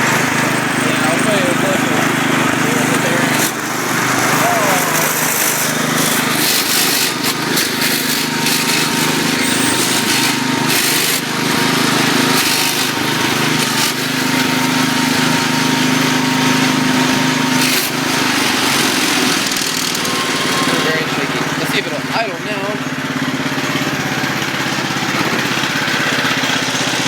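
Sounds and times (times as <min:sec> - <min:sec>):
bursts of clatter: 0:00.0 - 0:21.7
garden tractor engine running: 0:00.0 - 0:27.0.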